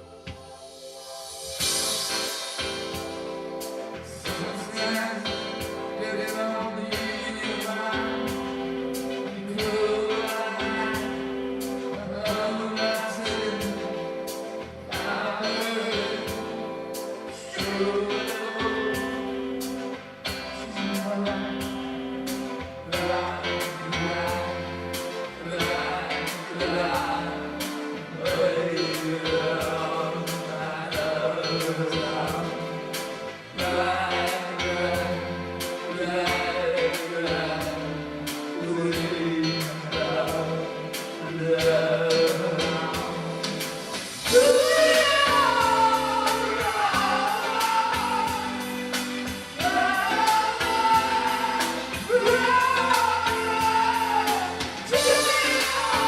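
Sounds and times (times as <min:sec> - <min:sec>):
song with steady beat: 0:00.0 - 0:56.0
person singing: 0:01.3 - 0:56.0.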